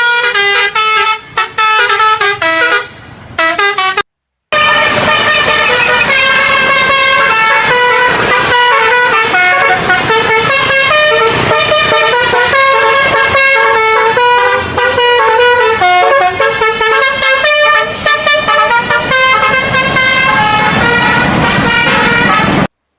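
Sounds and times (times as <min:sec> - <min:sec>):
bus air horn playing a melody: 0:00.0 - 0:22.7.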